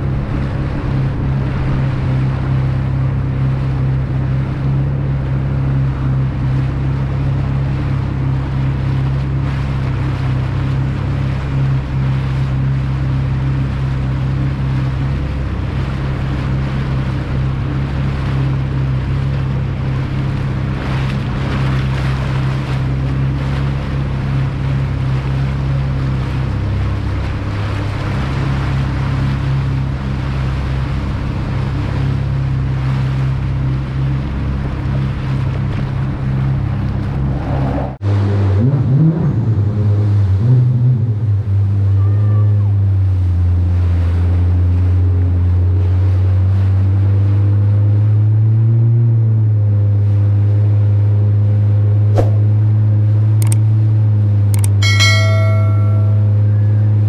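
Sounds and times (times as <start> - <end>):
motorboat engine running: 0.0 - 57.0
water rushing along hull: 0.0 - 57.0.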